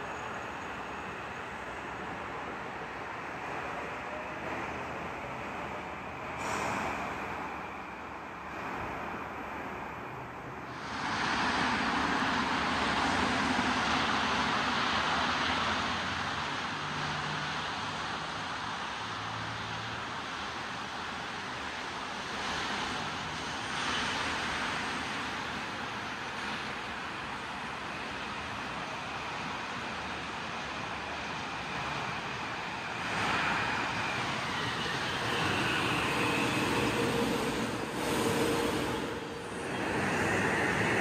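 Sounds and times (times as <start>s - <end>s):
electric train approaching: 0.0s - 16.6s, 21.4s - 41.0s
rushing vehicle noise: 0.0s - 41.0s.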